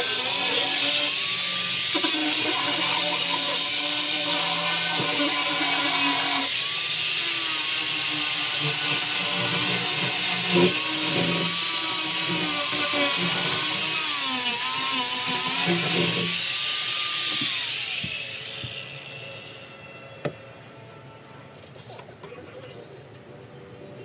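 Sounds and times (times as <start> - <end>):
electric grinder grinding fiberglass: 0.0 - 19.7.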